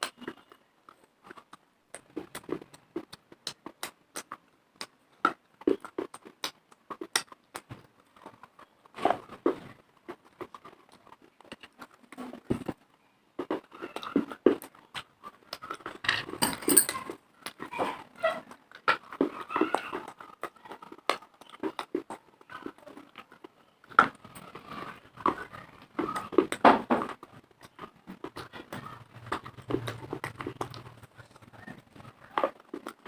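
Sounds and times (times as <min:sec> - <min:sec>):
chewing crunchy clay pieces: 0:00.0 - 0:16.4, 0:17.0 - 0:33.0.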